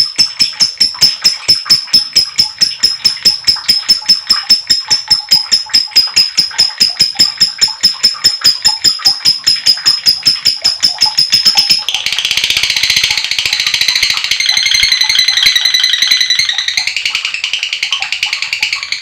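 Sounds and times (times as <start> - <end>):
lovebird chattering: 0.0 - 19.0.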